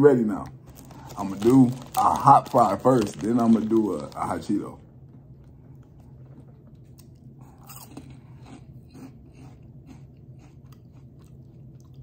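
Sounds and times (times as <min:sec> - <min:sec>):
person crunching snack: 0:00.6 - 0:04.5, 0:05.2 - 0:12.0.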